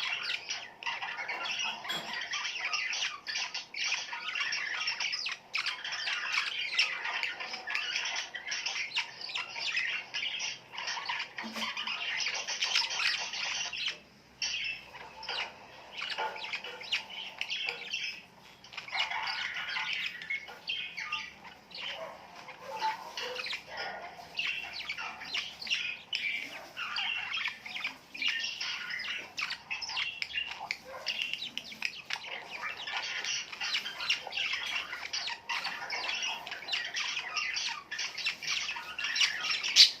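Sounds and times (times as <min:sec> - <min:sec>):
birds chirping and calling: 0:00.0 - 0:40.0.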